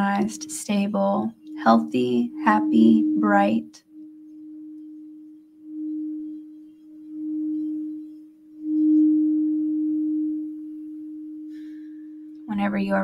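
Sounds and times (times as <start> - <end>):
singing bowl low tone: 0.0 - 13.0.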